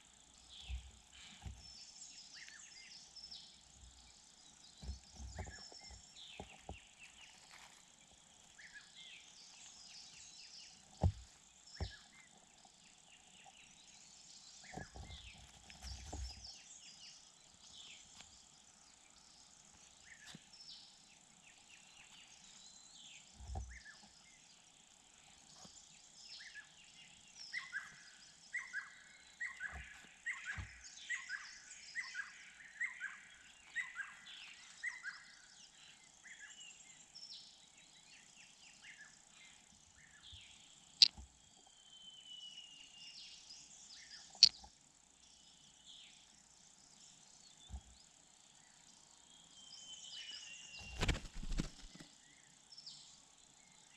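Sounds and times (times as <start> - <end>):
faint insect drone: 0.0 - 53.9
small birds chirping: 0.0 - 53.9.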